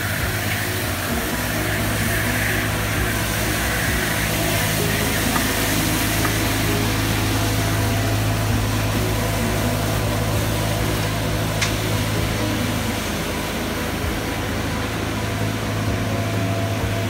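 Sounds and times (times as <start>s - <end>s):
rotating brushes and suction hiss: 0.0s - 17.0s
street sweeper engine hum: 0.0s - 17.0s.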